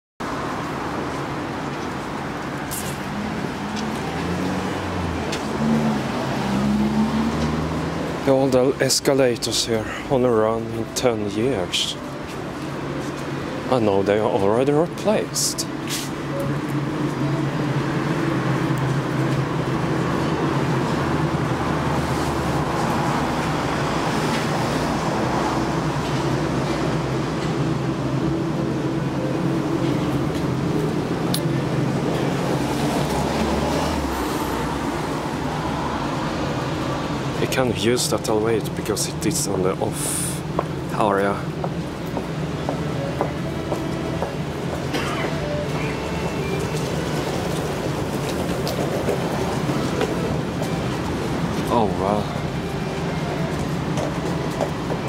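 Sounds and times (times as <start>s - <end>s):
traffic engine hum: 0.2s - 55.0s.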